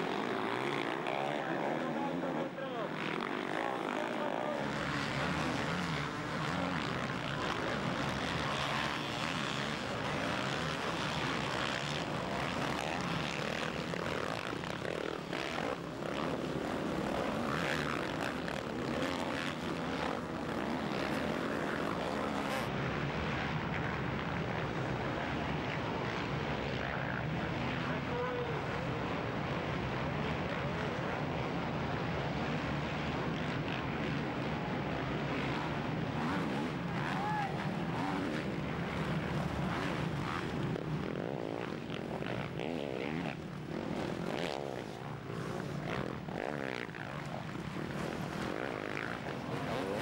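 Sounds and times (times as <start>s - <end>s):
motocross bike engines racing: 0.0s - 50.0s.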